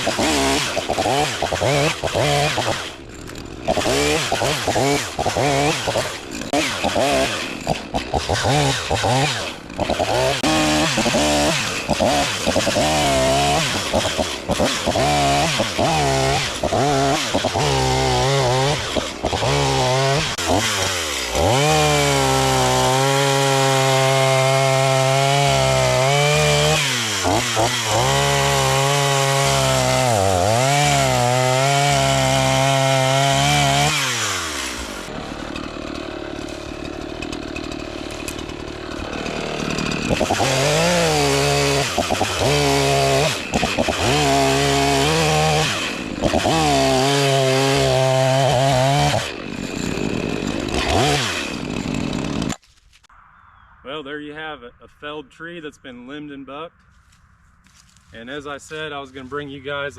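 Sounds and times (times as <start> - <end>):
chainsaw revving: 0.0 - 52.6.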